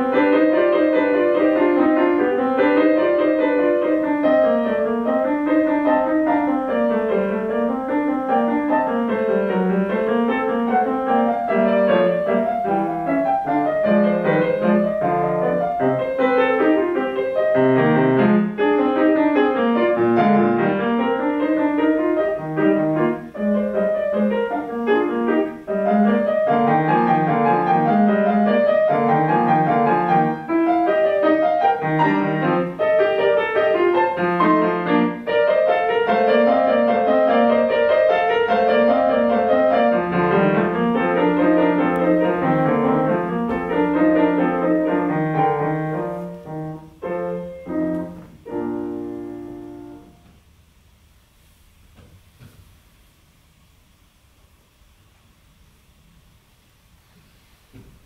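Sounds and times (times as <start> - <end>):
grand piano classical music: 0.0 - 51.1.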